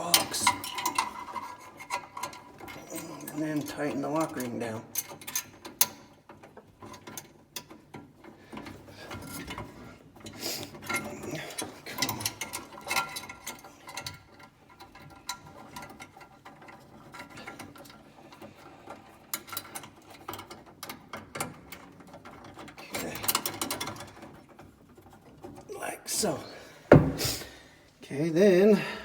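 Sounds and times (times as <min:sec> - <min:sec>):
metal clicking and rattling: 0:00.0 - 0:26.3.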